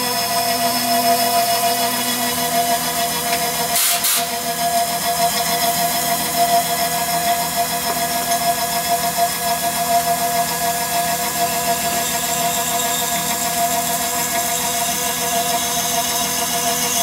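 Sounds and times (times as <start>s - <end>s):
milling cutter whining: 0.0s - 17.0s.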